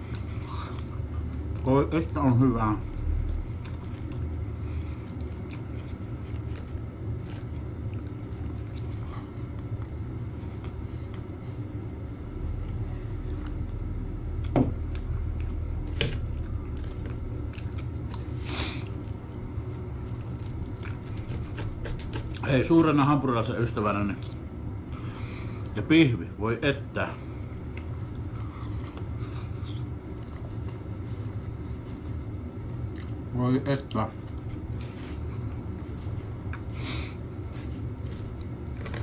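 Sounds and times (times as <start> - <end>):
man chewing: 0.0 - 1.7, 2.8 - 22.8, 27.2 - 33.3, 34.1 - 39.0
steady low hum: 0.0 - 39.0.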